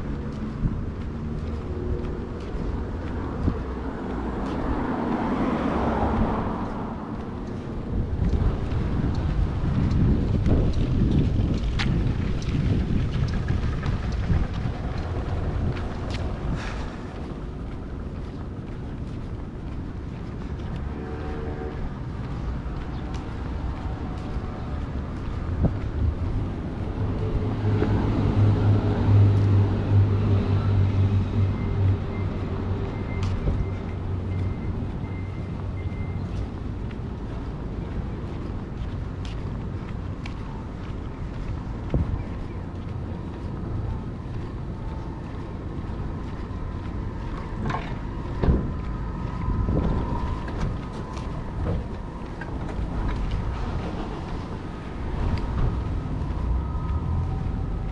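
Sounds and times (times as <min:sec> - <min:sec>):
city street traffic: 0:00.0 - 0:57.9
vehicle engine drone: 0:00.0 - 0:57.9
wind rumbling on microphone: 0:00.0 - 0:57.9.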